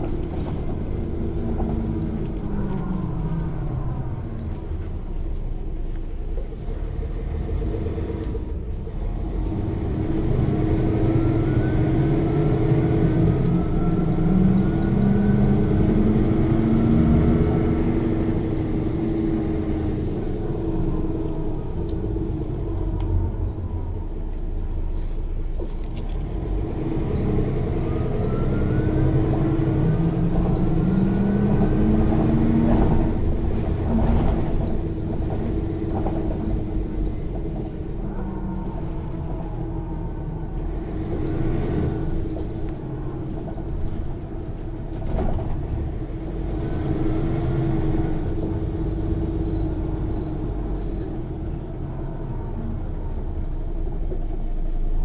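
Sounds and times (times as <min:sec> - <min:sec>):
bus diesel engine revving: 0:00.0 - 0:55.0.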